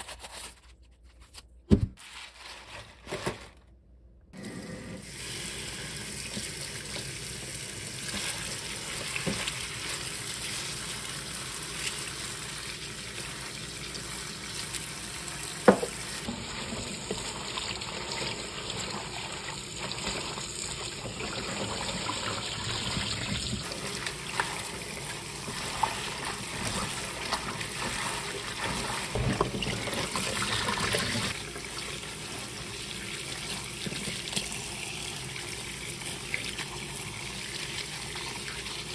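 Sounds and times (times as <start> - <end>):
tap water running into sink: 4.4 - 38.9.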